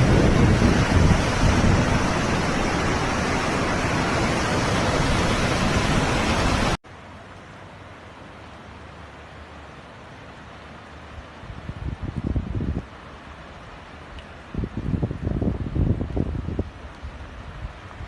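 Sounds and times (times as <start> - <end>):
flood water roaring: 0.0 - 18.0.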